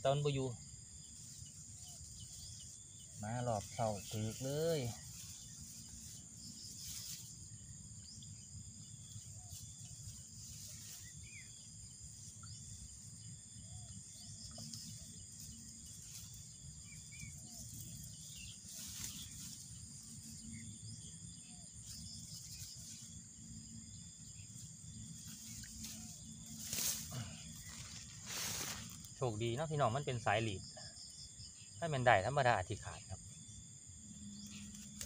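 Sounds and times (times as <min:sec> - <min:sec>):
crickets and insects chorus: 0:00.0 - 0:35.0
grass rustling: 0:01.0 - 0:30.4, 0:34.4 - 0:35.0.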